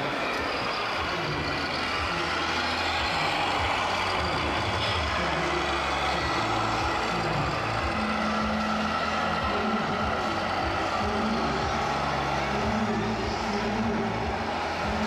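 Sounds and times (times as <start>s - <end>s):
busy hall background noise: 0.0s - 15.0s
diesel truck engine sound: 0.0s - 15.0s.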